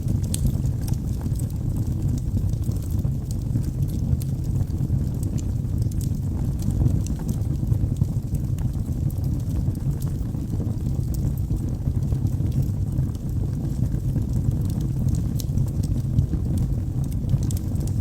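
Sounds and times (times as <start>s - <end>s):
logs crackling and popping: 0.0s - 18.0s
low rumble of fire: 0.0s - 18.0s.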